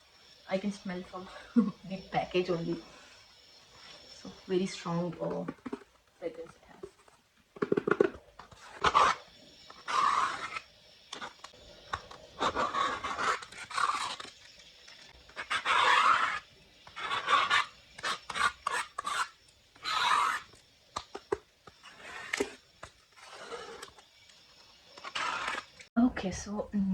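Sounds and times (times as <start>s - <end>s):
rubbing and scraping on packaging: 0.0s - 25.9s.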